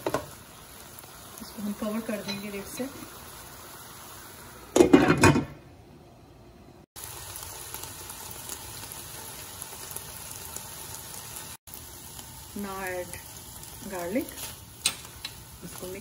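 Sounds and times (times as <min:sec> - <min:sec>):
chicken sizzling in oil: 0:00.0 - 0:04.8, 0:06.9 - 0:16.0.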